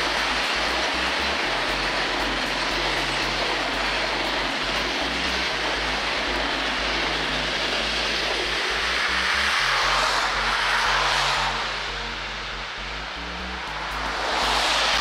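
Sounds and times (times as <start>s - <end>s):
car tyres hissing on wet road: 0.0s - 15.0s
train wheels on rails: 0.0s - 15.0s.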